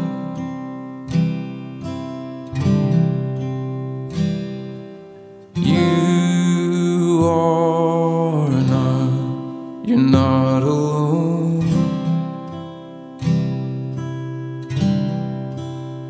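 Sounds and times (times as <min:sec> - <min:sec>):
acoustic guitar strumming music: 0:00.0 - 0:16.0.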